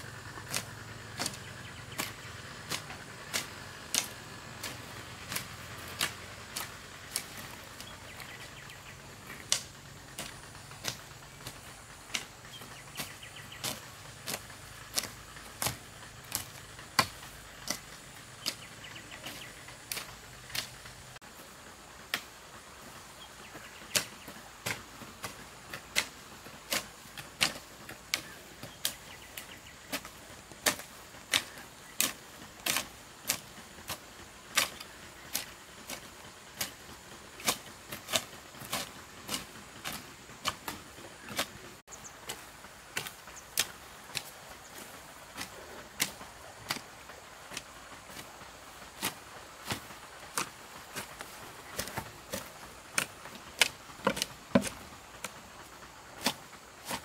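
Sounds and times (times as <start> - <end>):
hoe chopping into soil: 0.1 - 55.4, 56.2 - 57.0.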